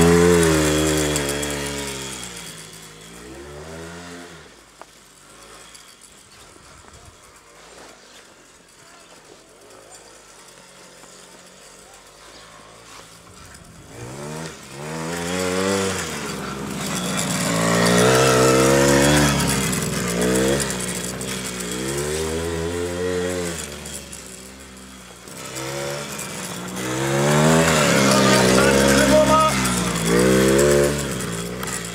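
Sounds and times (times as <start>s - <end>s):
quad bike engine revving: 0.0s - 31.9s.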